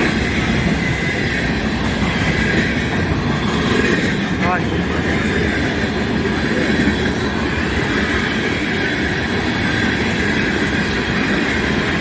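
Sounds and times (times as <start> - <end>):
freight train wheels rattling: 0.0 - 12.0.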